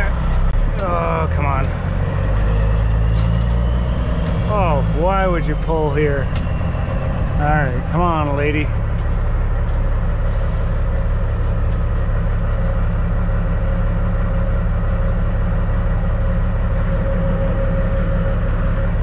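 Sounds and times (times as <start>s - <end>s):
diesel engine low rumble: 0.0s - 19.0s
faint steady whine: 0.0s - 19.0s.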